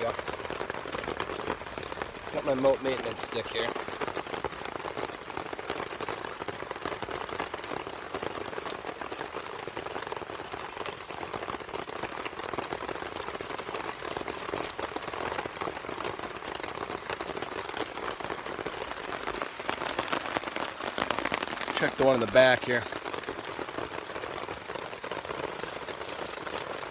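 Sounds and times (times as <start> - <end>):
rain falling on a tarp: 0.0 - 26.9.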